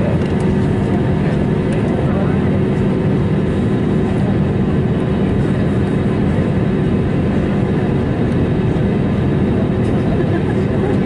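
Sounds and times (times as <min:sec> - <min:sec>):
jet engines idling rumble: 0:00.0 - 0:11.0.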